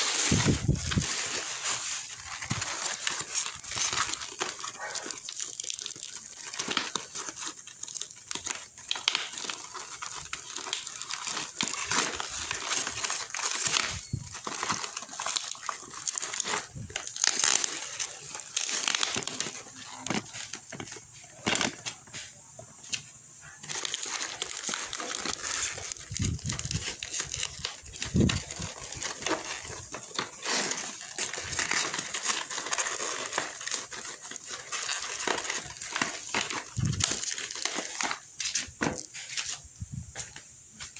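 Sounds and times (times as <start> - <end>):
cardboard and tape tearing: 0.0 - 22.3, 23.6 - 39.6
crackling and crinkling: 0.0 - 40.9.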